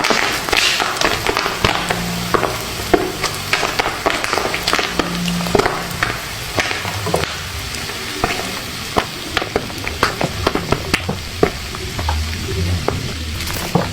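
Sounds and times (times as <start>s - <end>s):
oil sizzling: 0.0s - 13.9s
popcorn popping: 0.0s - 13.9s.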